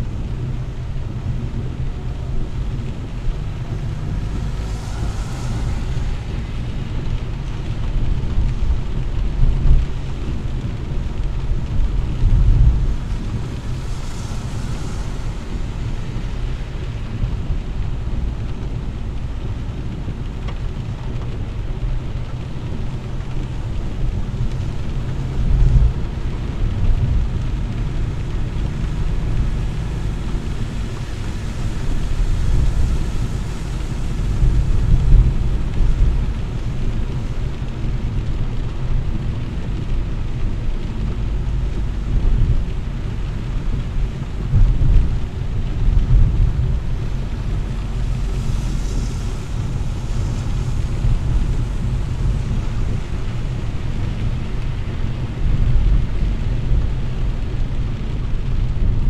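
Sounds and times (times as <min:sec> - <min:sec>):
rain on a car: 0:00.0 - 0:59.0
tyres rumbling on wet road: 0:00.0 - 0:59.0.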